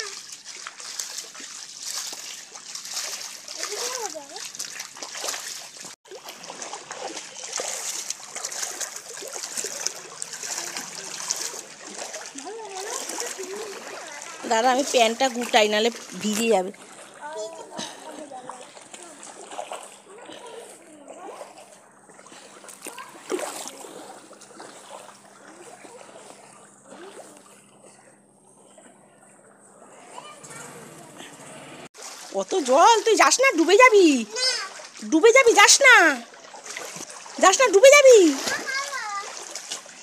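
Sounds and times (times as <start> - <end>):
feet splashing through water: 0.0 - 40.0.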